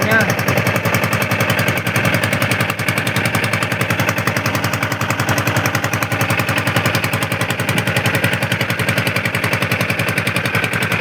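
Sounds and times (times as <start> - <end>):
small engine puttering: 0.0 - 11.0.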